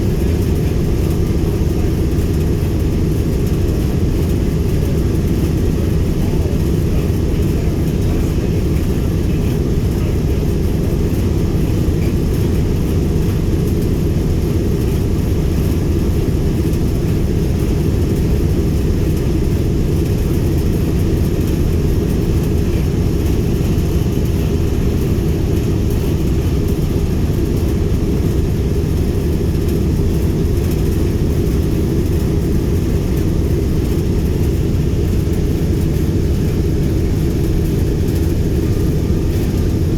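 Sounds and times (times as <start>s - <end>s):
aircraft radial engines droning: 0.0s - 39.9s.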